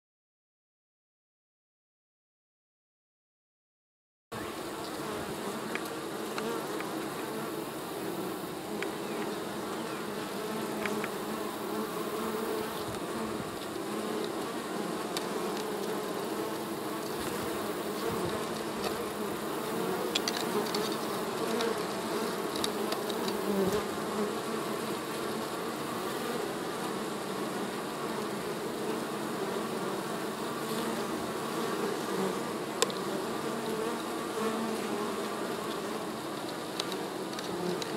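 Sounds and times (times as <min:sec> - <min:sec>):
bees buzzing: 0:04.4 - 0:37.9.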